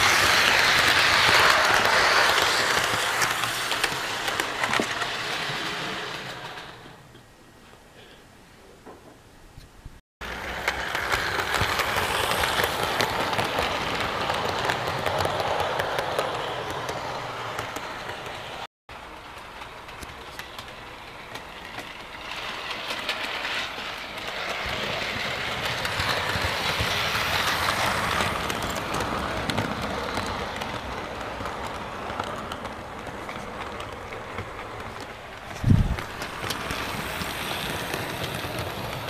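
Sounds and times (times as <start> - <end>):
train running along track: 0.0 - 7.2, 10.2 - 39.0.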